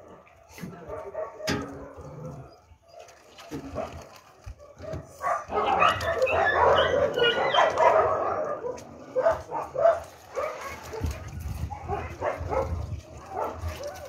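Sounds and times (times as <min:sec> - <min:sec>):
pack of dogs barking: 0:00.0 - 0:14.0.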